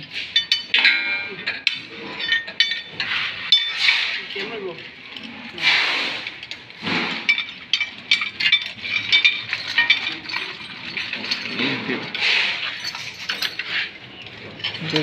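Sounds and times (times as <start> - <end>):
metal parts and tools clinking: 0.0 - 15.0.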